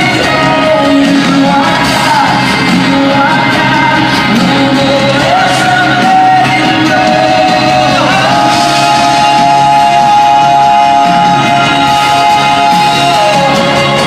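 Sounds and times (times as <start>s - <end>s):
lead vocal holding long notes: 0.0s - 14.0s
rock band playing: 0.0s - 14.0s.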